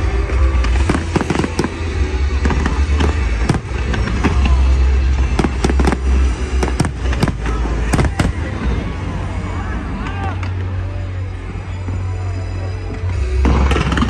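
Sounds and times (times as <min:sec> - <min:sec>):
deep rumble: 0:00.0 - 0:14.0
fireworks bangs and crackles: 0:00.0 - 0:14.0.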